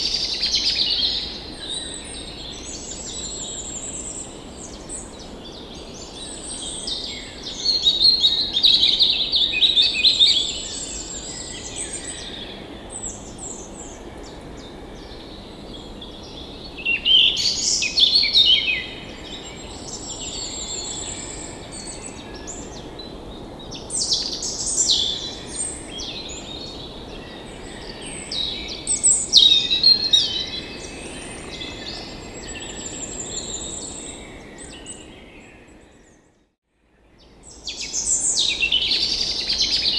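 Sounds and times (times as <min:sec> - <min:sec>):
songbirds chirping and trilling: 0:00.0 - 0:36.4.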